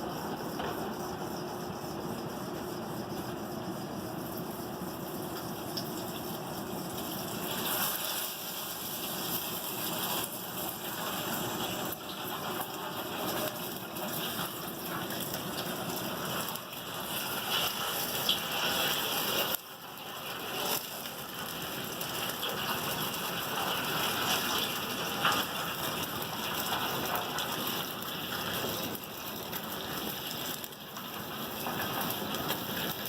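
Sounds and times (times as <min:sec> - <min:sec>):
hot steel sizzling in quench oil: 0:00.0 - 0:33.0.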